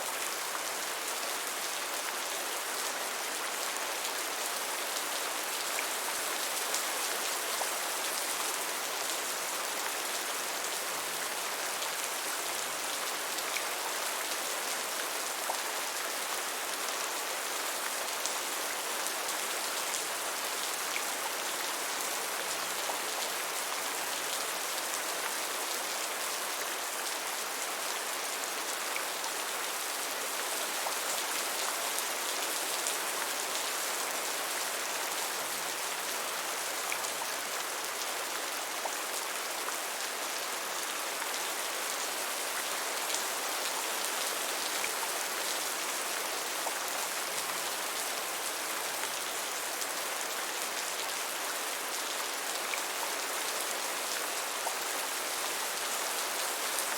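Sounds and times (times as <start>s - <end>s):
gentle rain pattering: 0.0s - 56.9s.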